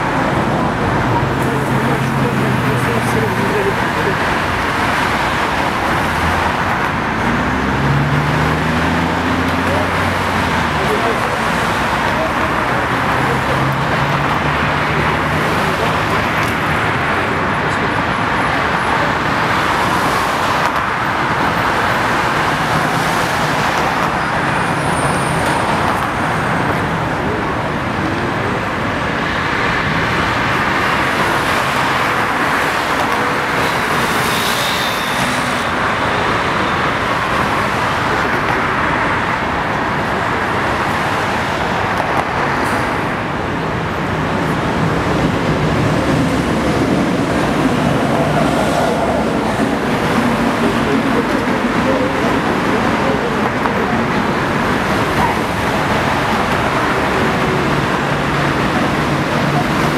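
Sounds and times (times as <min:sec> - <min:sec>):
city traffic noise: 0:00.0 - 0:59.9.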